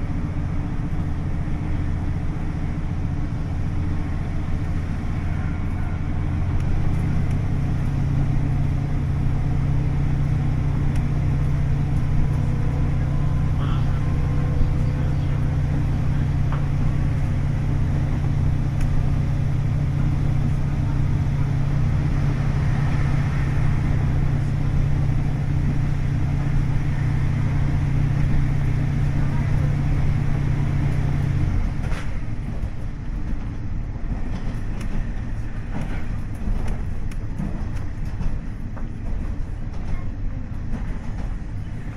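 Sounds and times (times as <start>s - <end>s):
diesel engine droning: 0.0s - 41.9s
railcar in motion: 0.0s - 41.9s.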